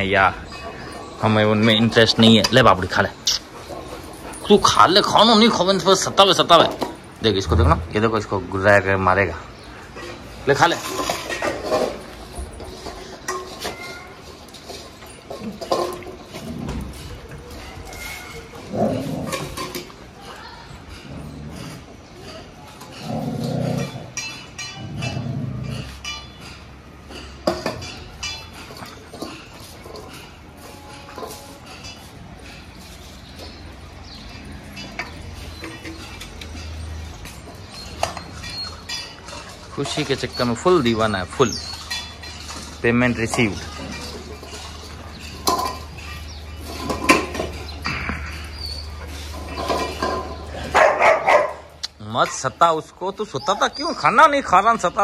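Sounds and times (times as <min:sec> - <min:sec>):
metal bowls clinking on tile floor: 0:00.0 - 0:55.0.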